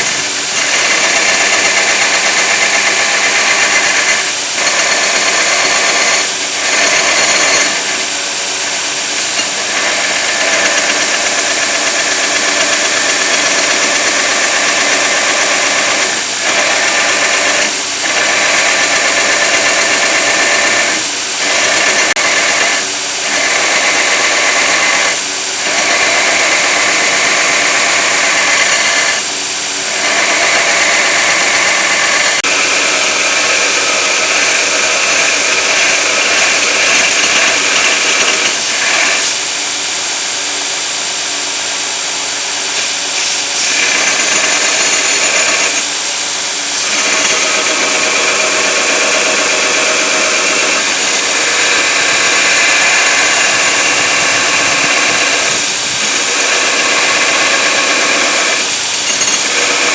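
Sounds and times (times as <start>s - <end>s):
power grinder on steel blade: 0.0s - 59.9s.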